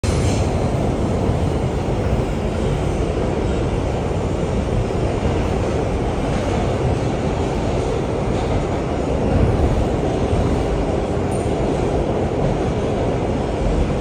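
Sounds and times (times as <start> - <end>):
subway train rumble inside car: 0.0 - 14.0.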